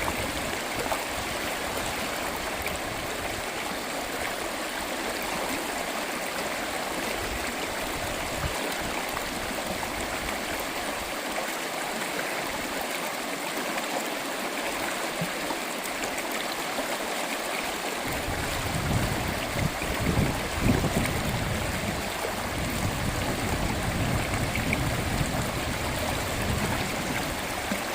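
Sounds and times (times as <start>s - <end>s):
stream water running: 0.0s - 27.9s.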